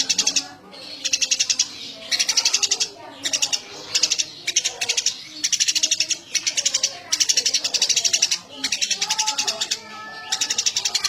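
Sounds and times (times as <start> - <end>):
sparrow chirping: 0.0 - 11.0.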